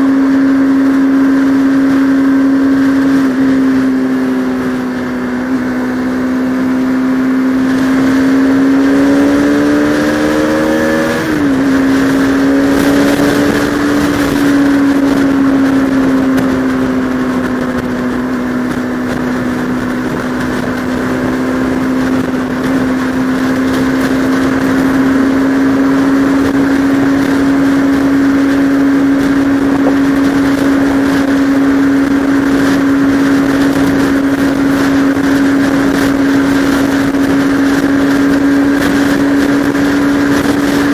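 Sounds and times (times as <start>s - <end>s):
motorcycle engine: 0.0s - 40.9s
wind noise: 0.0s - 40.9s.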